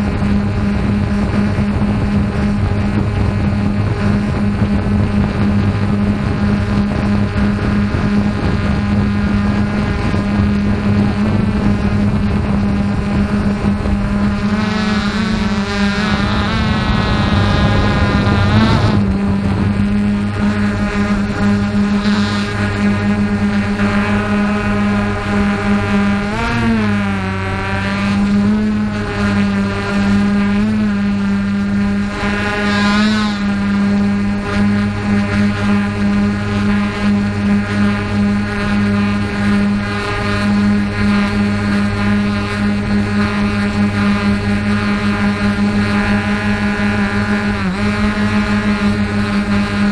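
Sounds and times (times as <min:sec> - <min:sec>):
engine running steadily: 0:00.0 - 0:49.9
wind noise on microphone: 0:00.0 - 0:49.9.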